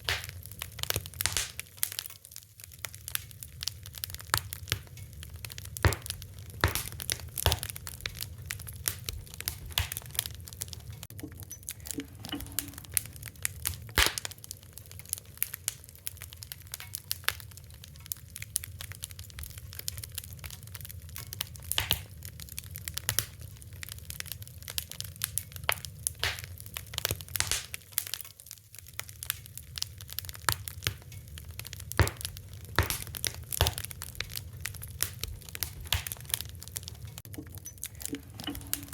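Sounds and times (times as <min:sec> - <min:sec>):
low rumble of burning fire: 0:00.0 - 0:38.9
wood fire crackling: 0:00.0 - 0:38.9.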